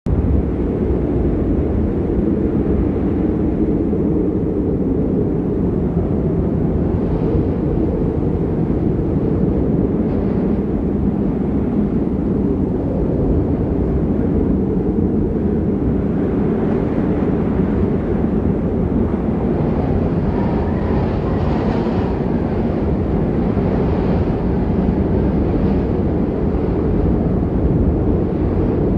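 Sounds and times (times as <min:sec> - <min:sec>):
wind buffeting microphone: 0:00.1 - 0:28.9.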